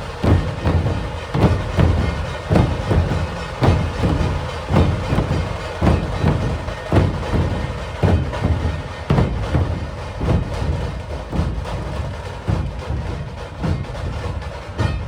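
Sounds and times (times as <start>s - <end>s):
drum ensemble playing: 0.0s - 15.0s
heavy drum strokes: 0.0s - 15.0s.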